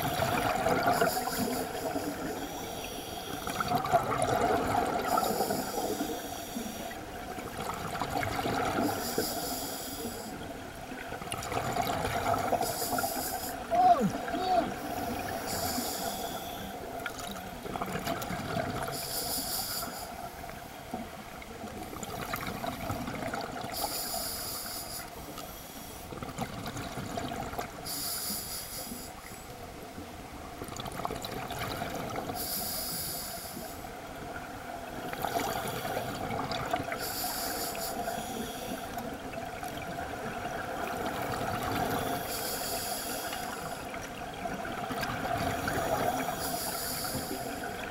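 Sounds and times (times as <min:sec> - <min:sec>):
underwater wash: 0:00.0 - 0:47.9.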